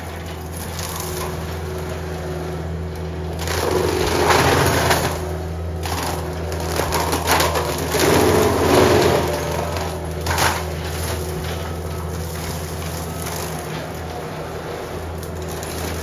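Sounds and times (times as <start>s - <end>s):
loader engine running: 0.0s - 16.0s
branches cracking and crunching: 0.1s - 16.0s.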